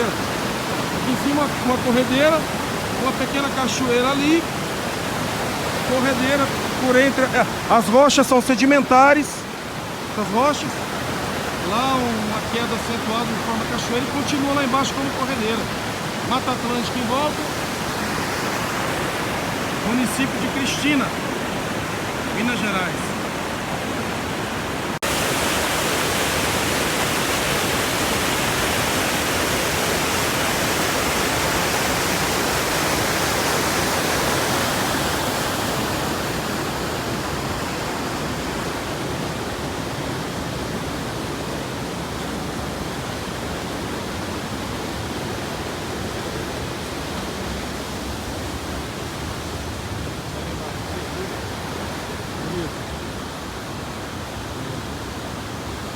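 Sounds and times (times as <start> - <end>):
water rushing over rocks: 0.0 - 55.9.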